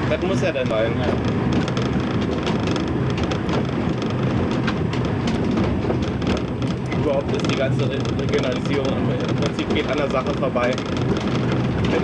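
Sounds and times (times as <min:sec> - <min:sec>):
railcar engine hum: 0:00.0 - 0:12.0
train rolling rumble: 0:00.0 - 0:12.0
wheel clicks and rattles: 0:00.0 - 0:12.0.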